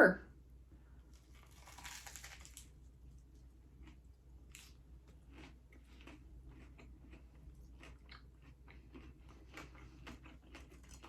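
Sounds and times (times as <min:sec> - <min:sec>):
chewing toasted sandwich: 0:01.1 - 0:11.0.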